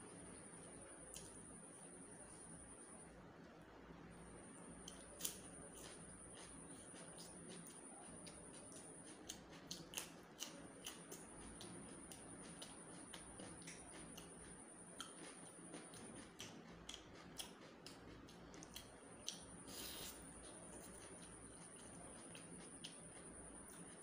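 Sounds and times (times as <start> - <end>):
faint high-pitched whine: 0.0 - 24.0
man chewing food: 0.6 - 1.6, 4.7 - 24.0.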